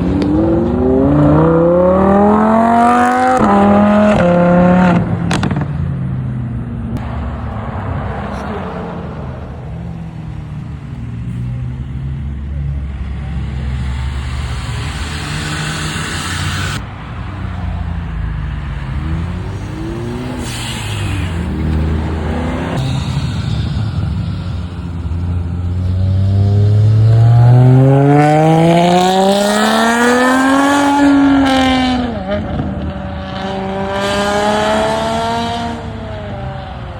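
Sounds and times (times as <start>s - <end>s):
car engine accelerating hard: 0.0s - 5.7s, 6.9s - 36.9s
car engines running: 0.0s - 36.9s.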